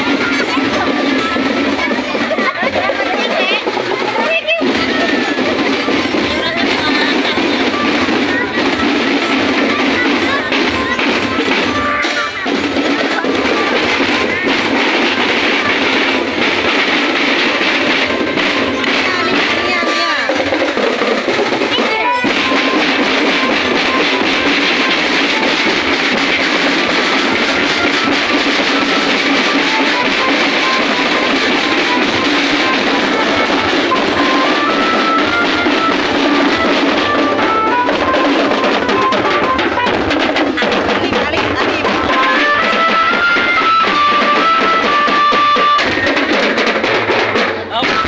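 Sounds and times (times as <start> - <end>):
music with drum beat: 0.0 - 48.0.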